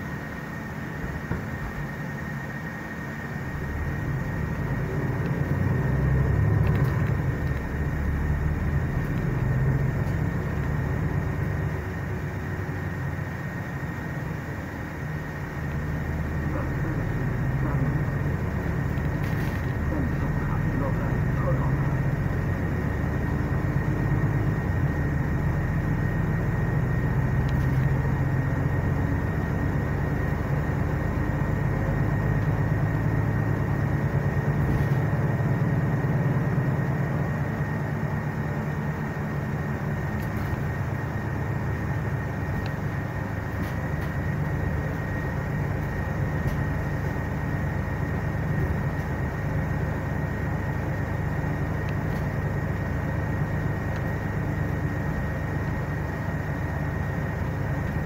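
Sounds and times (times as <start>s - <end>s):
bus engine drone and rumble: 0.0s - 58.0s.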